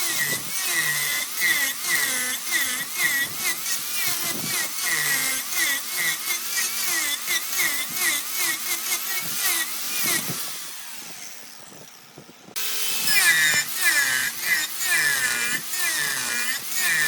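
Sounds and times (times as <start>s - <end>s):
turning tool squealing on wood: 0.0s - 12.0s, 12.6s - 17.0s.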